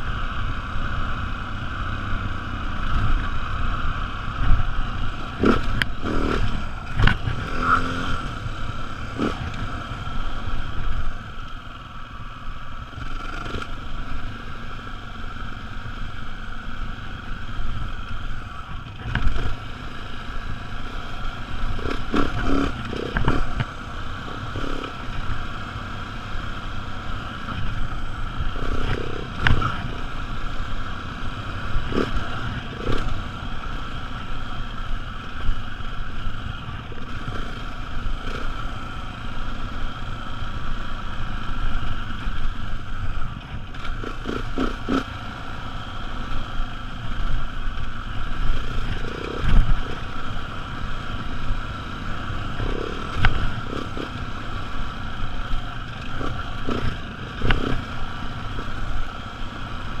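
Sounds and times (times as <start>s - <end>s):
dirt bike engine running: 0.0s - 60.0s.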